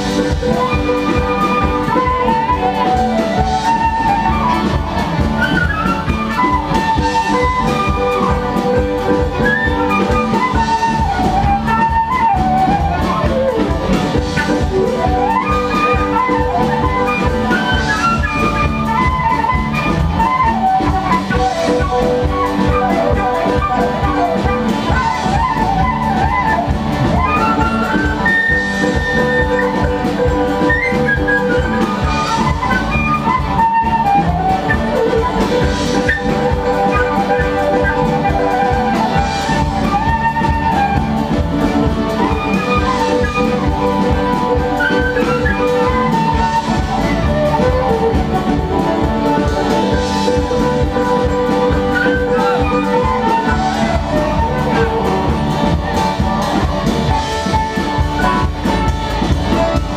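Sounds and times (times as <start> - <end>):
band playing music: 0.0 - 59.9
drum kit beat: 0.0 - 59.9.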